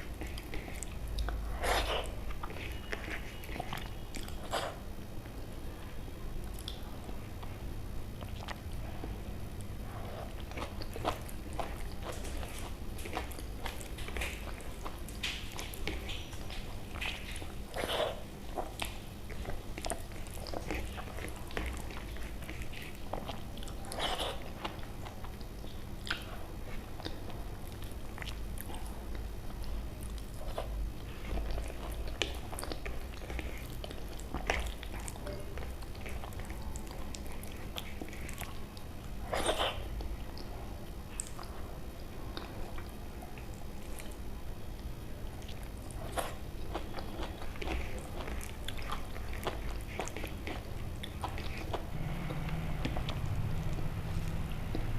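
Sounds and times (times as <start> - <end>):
person chewing and smacking food: 0.0 - 54.9.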